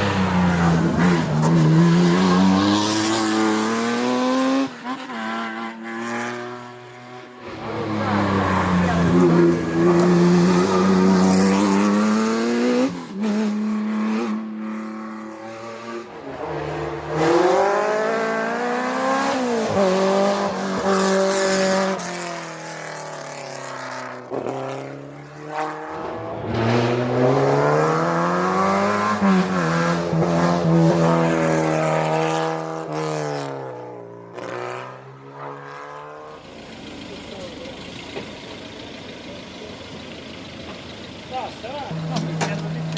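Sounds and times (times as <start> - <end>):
racing car engines revving: 0.0 - 42.9.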